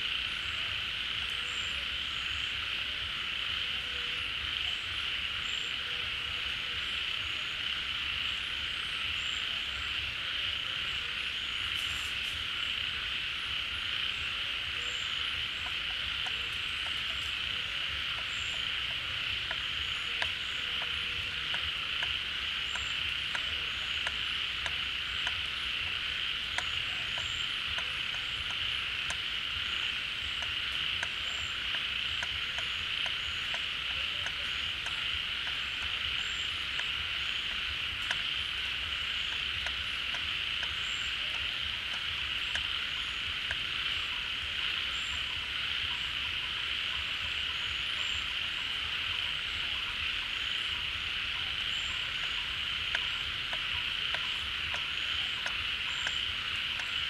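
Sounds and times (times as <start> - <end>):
frog chorus: 0.0 - 57.0.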